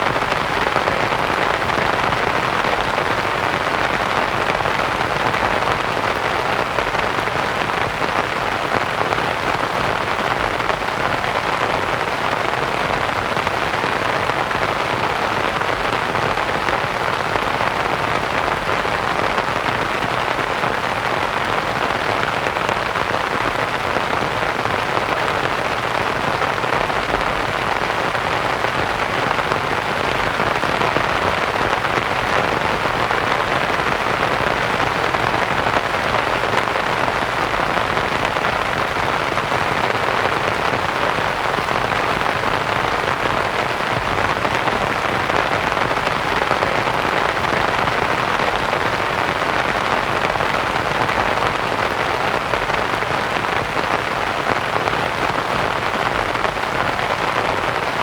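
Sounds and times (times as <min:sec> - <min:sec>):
rain on a canvas tent: 0:00.0 - 0:58.0.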